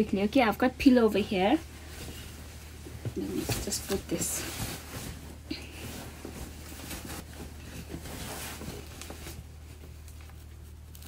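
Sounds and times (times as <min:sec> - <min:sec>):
pillowcase rustling: 0:00.2 - 0:10.6.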